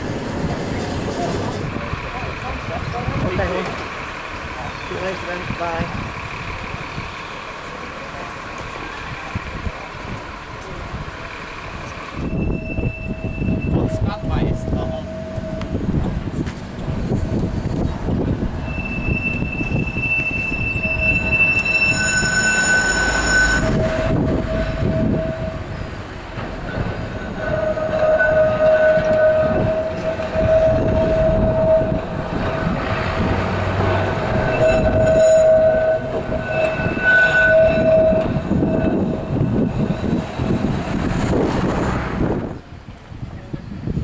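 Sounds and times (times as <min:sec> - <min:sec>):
tram wheels squealing: 0:00.0 - 0:43.0
tram rumbling on rails: 0:00.0 - 0:44.0.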